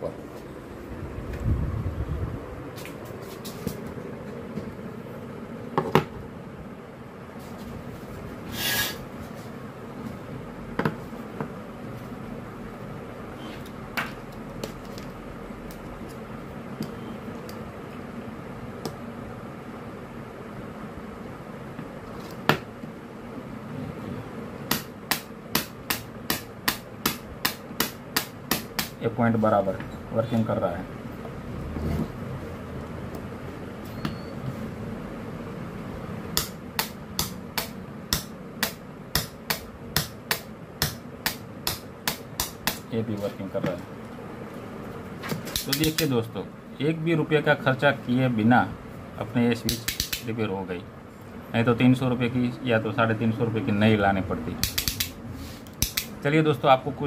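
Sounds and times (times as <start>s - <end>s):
background hum and hiss: 0.0s - 57.0s.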